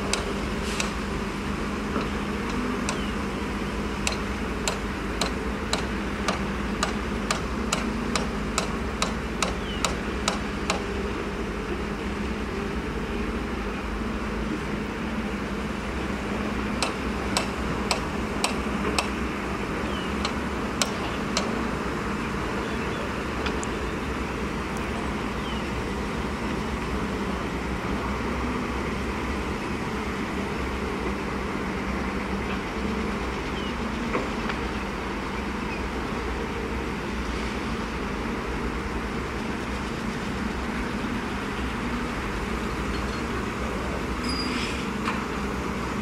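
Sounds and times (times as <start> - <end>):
diesel engines running: 0.0 - 46.0.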